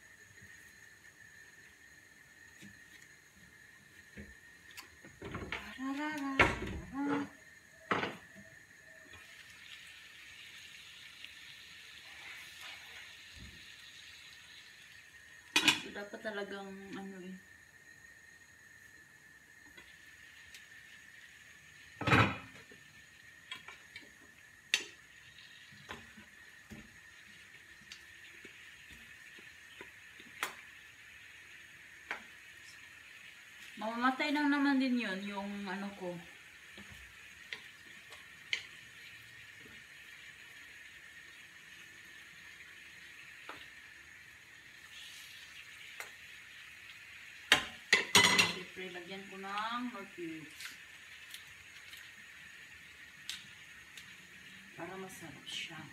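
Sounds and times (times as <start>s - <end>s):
ribs sizzling in a pan: 0.0s - 55.9s.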